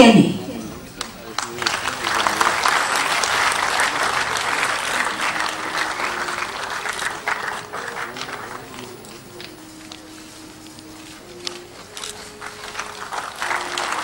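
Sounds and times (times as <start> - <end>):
audience clapping: 0.5 - 14.0.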